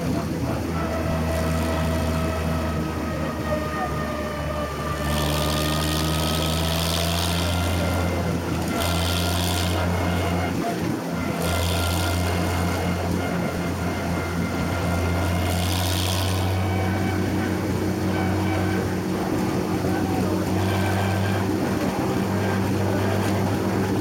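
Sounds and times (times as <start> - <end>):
tractor engine humming: 0.0 - 24.0.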